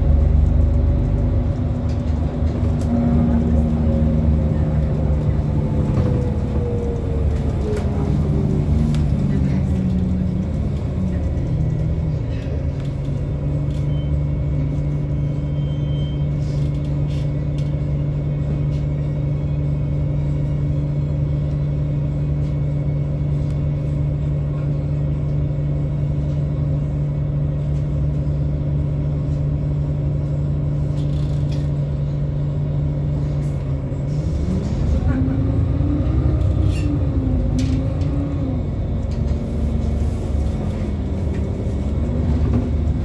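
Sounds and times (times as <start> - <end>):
bus diesel engine: 0.0 - 43.0.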